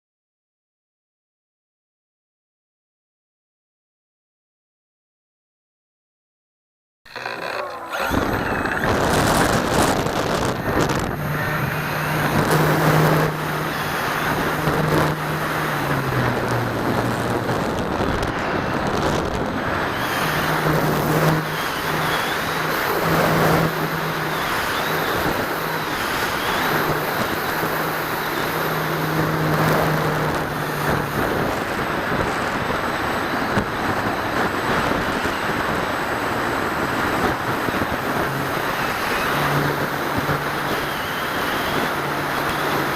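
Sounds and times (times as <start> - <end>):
electric motors and propellers humming: 7.1 - 42.9
wind rush on microphone: 7.9 - 42.9.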